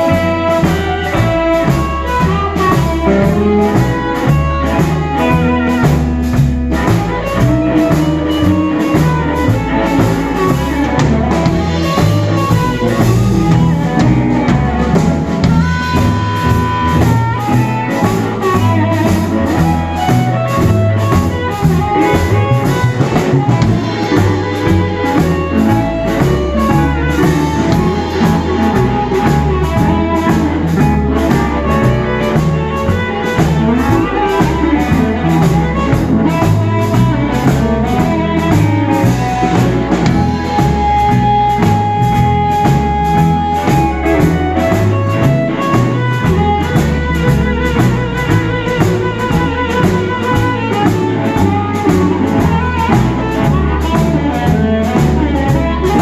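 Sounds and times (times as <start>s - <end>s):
drum kit groove: 0.0s - 56.0s
electric bass: 0.0s - 56.0s
electric guitar: 0.0s - 56.0s
harmonica lead: 0.0s - 56.0s.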